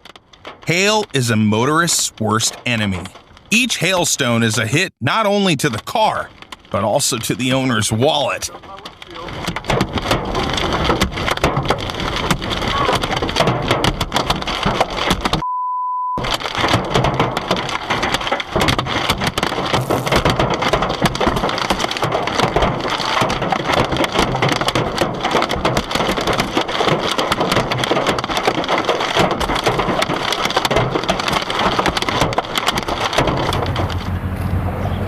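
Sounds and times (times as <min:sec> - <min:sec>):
hailstones pelting a car: 0:00.0 - 0:15.4, 0:16.2 - 0:34.3.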